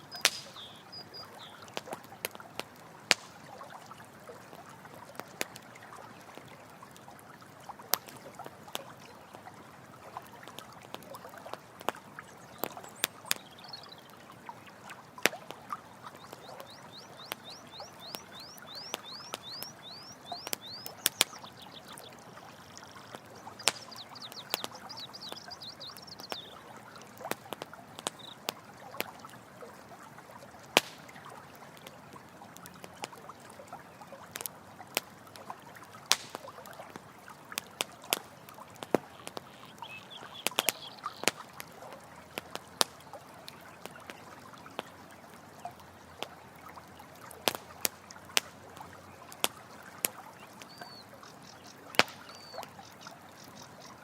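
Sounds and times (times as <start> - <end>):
campfire crackling and popping: 0.0 - 54.0
running water: 0.0 - 54.0.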